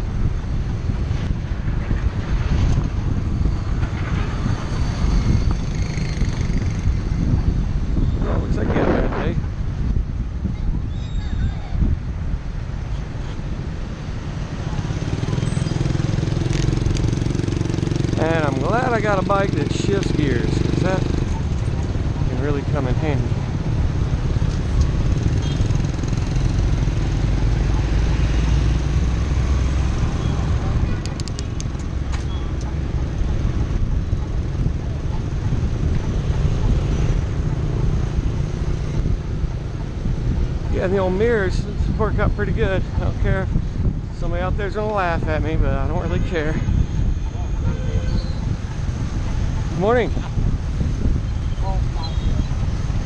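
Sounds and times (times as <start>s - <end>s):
motor traffic: 0.0s - 53.0s
wind buffeting microphone: 0.0s - 53.0s.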